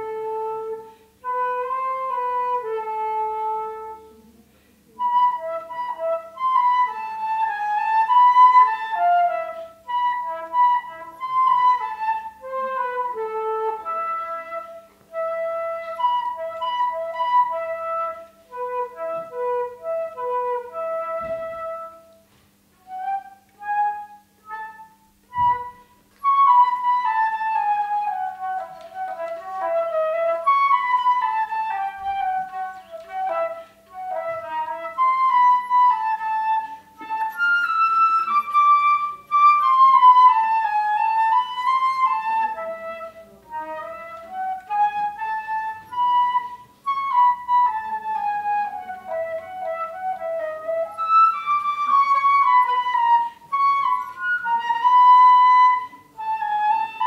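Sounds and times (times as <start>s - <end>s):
solo flute melody: 0.0s - 57.0s.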